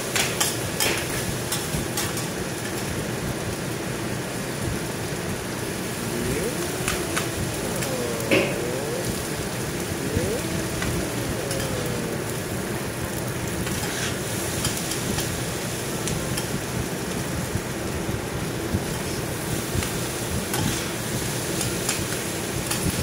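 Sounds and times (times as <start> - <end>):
rice sizzling on griddle: 0.0 - 23.0.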